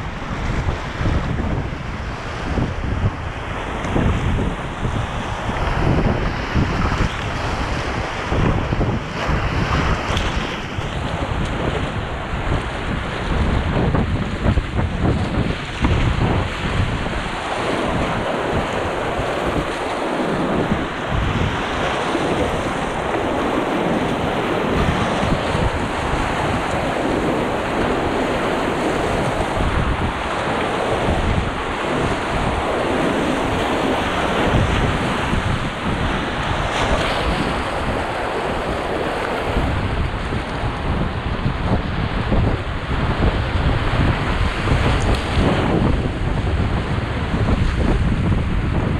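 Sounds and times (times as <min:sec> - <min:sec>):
whitewater rapids rushing: 0:00.0 - 0:41.1
wind buffeting microphone: 0:00.0 - 0:48.9.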